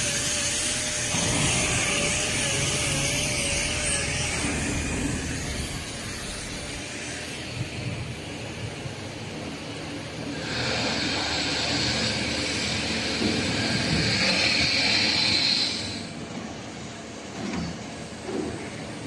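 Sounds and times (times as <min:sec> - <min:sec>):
machine noise with hiss: 0:00.0 - 0:19.0
thin wavering whine: 0:00.0 - 0:19.0.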